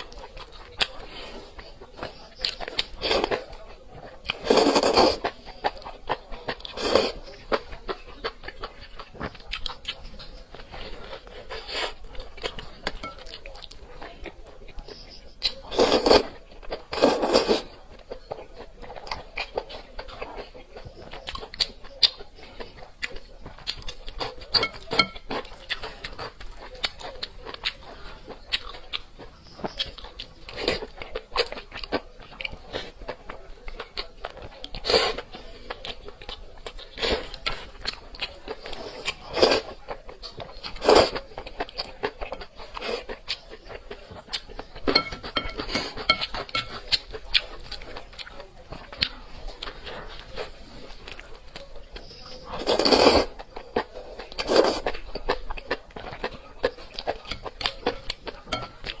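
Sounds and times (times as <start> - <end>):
wet chewing and crunching: 0.0 - 59.0.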